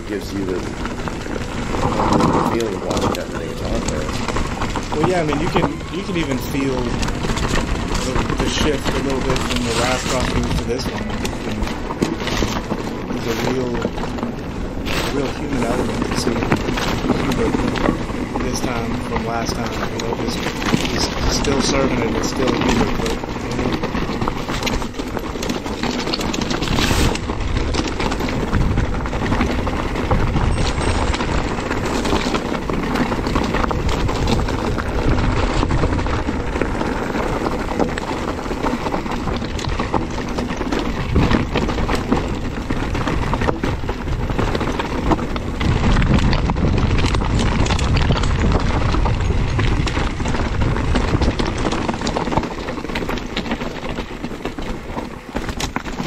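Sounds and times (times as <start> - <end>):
bike rattling: 0.0 - 56.0
tyres crunching over stones: 0.0 - 56.0
wind rumbling on microphone: 0.0 - 56.0.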